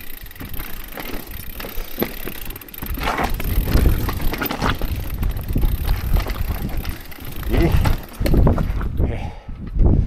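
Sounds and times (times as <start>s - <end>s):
tyres crunching over gravel: 0.0s - 9.0s
bike rattling over rocks: 0.0s - 9.1s.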